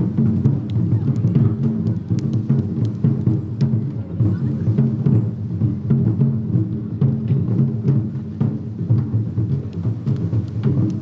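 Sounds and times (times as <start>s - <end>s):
rapid drumming beat: 0.0s - 11.0s.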